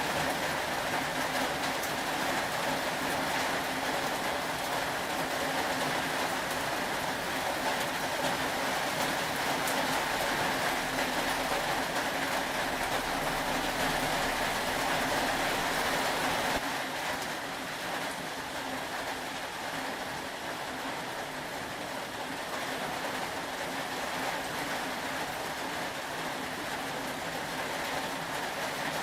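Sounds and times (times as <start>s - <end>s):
steady rain hissing: 0.0s - 29.0s.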